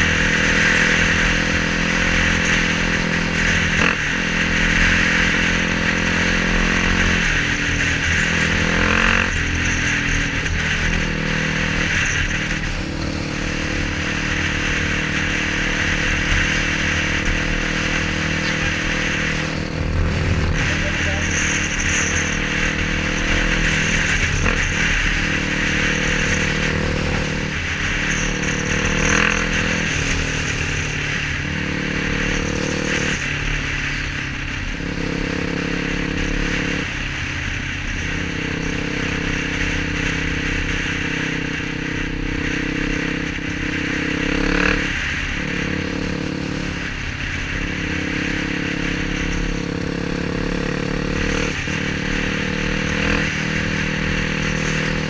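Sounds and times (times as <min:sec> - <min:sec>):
motorcycle engine running: 0:00.0 - 0:55.0
wind noise on microphone: 0:06.4 - 0:55.0.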